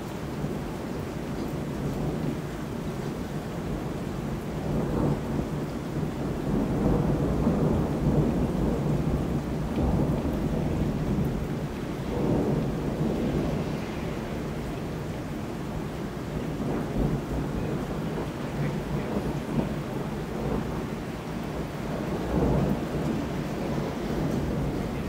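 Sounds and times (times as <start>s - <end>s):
rain falling: 0.0s - 25.0s
rolling thunder rumbling: 3.6s - 25.0s.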